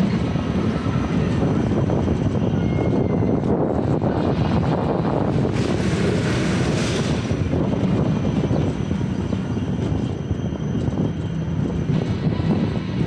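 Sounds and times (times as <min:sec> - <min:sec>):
kart wheels rumbling on rail: 0:00.0 - 0:13.0.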